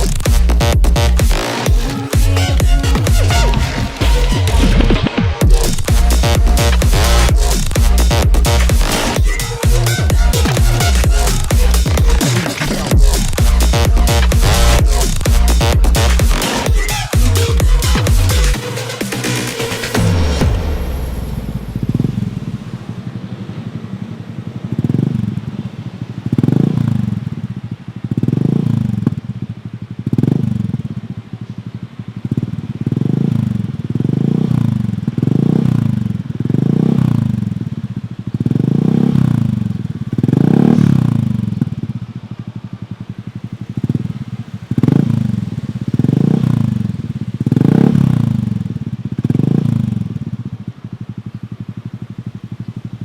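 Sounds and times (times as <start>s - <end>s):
scooter engine revving: 0.0s - 53.0s.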